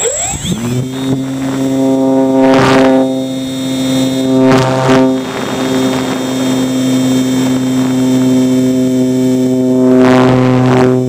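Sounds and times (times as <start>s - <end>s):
electric motor and propeller humming: 0.0s - 11.0s
wind noise rushes: 0.3s - 11.0s.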